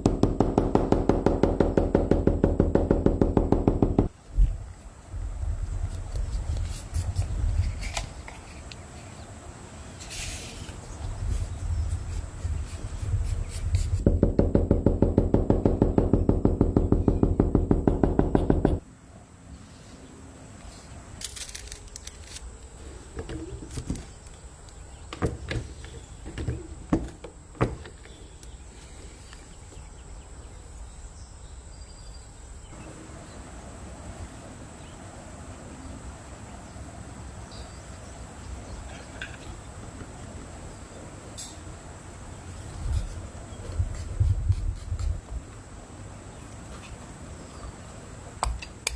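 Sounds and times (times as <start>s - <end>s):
low steady hiss: 0.0s - 48.9s.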